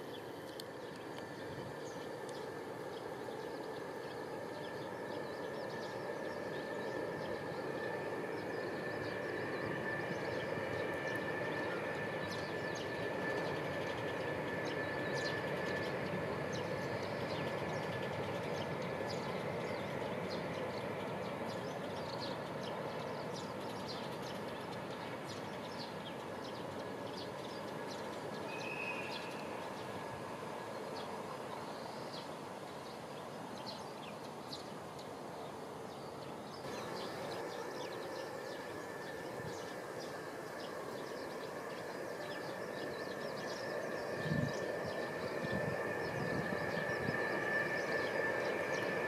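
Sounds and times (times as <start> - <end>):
distant trains rumbling: 0.0 - 49.0.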